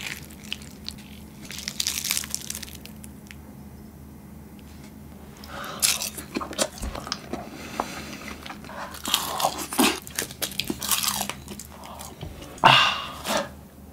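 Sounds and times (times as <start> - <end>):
crunchy seaweed chewing: 0.0 - 3.4, 5.3 - 13.5.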